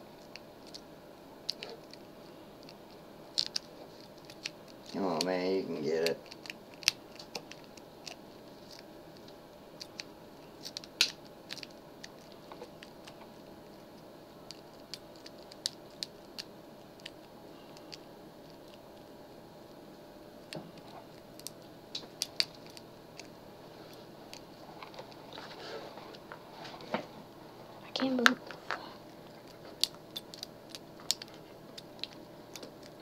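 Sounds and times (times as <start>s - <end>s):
faint room hum: 0.0s - 33.0s.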